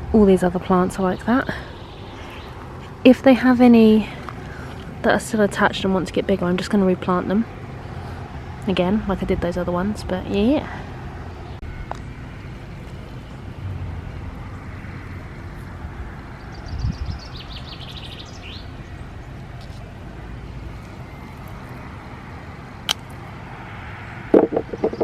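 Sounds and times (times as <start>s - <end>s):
distant traffic rumble: 0.0s - 25.0s.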